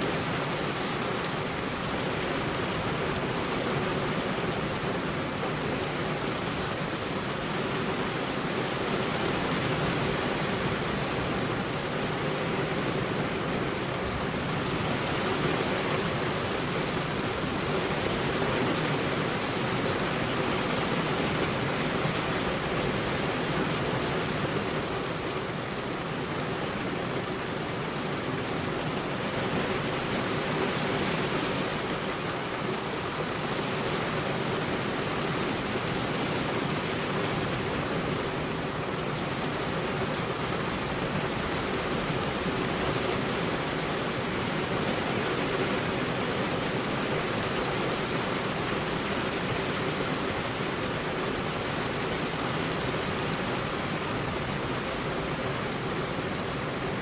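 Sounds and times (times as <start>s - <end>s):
heavy rain on a road: 0.0s - 57.0s.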